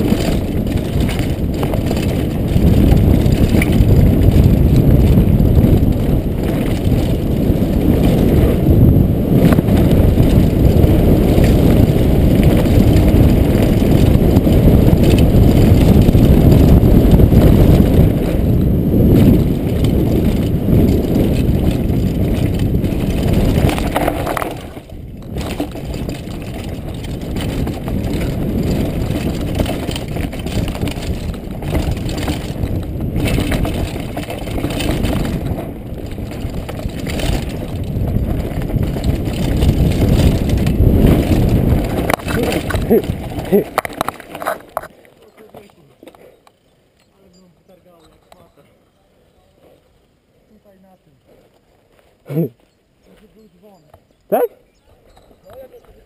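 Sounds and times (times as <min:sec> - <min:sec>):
bike tyres rumbling on dirt trail: 0:00.0 - 0:56.0
wind buffeting: 0:00.0 - 0:56.0.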